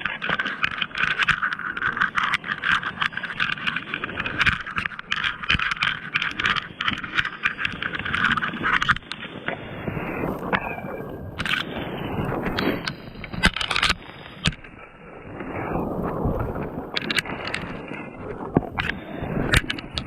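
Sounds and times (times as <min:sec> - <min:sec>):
thin ice crackling and breaking: 0:00.0 - 0:09.3, 0:10.2 - 0:14.9, 0:15.8 - 0:20.0.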